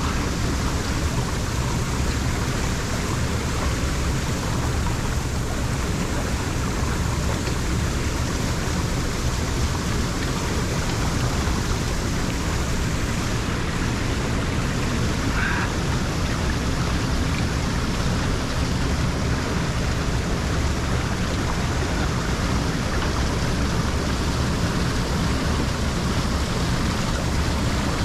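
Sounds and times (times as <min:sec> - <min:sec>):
water rushing into drain: 0:00.0 - 0:28.0.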